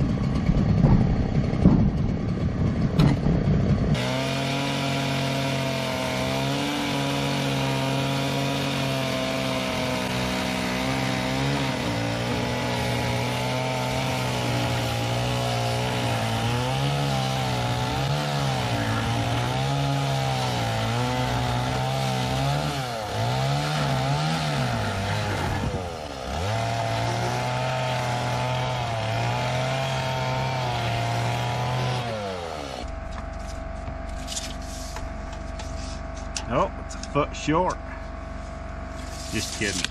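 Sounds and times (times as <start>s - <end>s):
chainsaw cutting wood: 0.0s - 36.6s.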